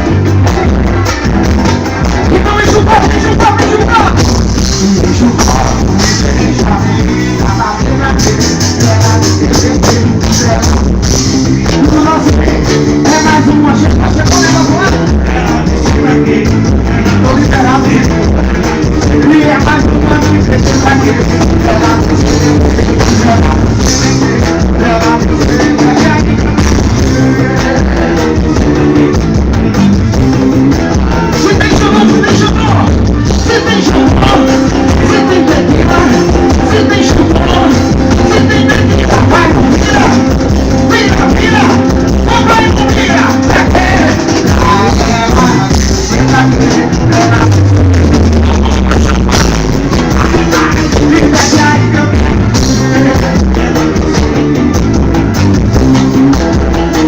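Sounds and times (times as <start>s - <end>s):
person singing: 0.0s - 54.8s
street band percussion: 0.0s - 57.0s.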